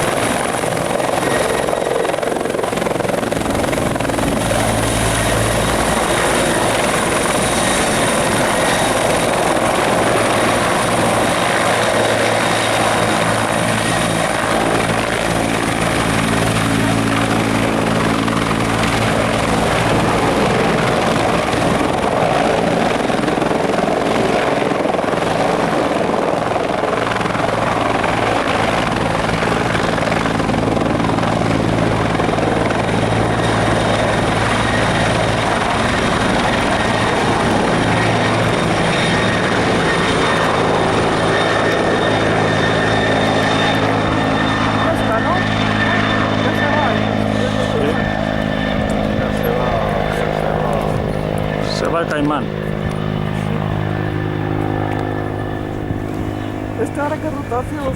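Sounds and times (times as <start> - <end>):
helicopter rotor beat: 0.0 - 57.9
high turbine whine: 0.0 - 57.9.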